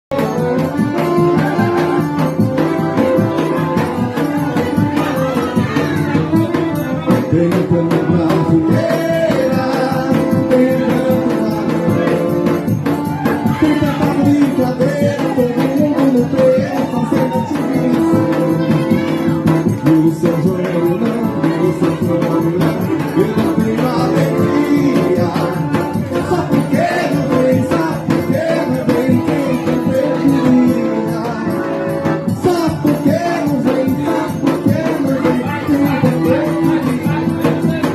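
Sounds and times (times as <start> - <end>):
bass drum rhythm: 0.1 - 37.9
folk dance melody: 0.1 - 37.9.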